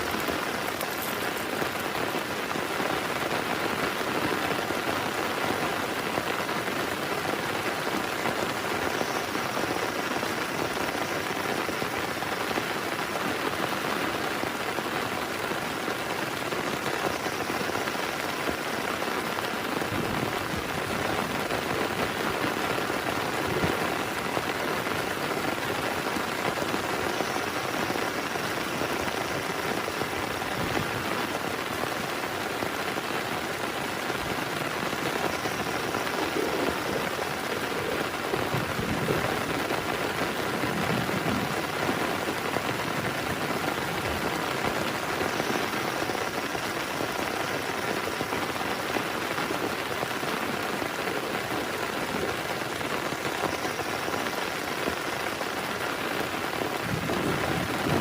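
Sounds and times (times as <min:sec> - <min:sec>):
heavy rain on a tent: 0:00.0 - 0:58.0.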